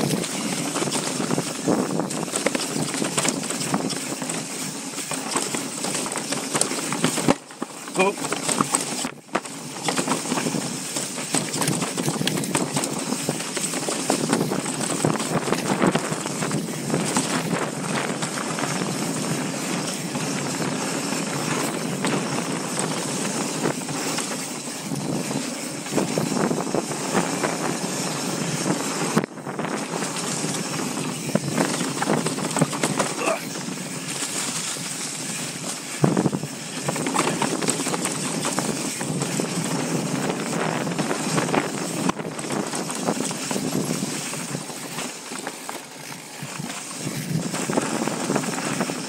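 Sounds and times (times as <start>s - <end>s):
tyre and trail noise: 0.0s - 49.0s.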